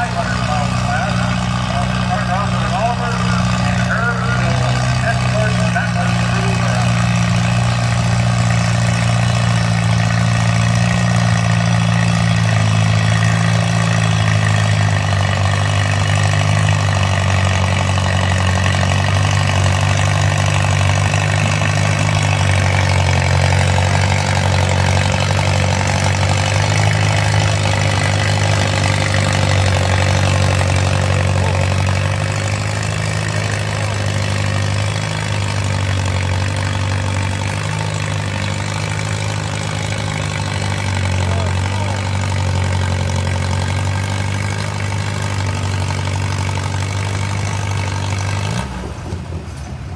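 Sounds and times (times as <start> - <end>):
tractor engine under heavy load: 0.0 - 49.9.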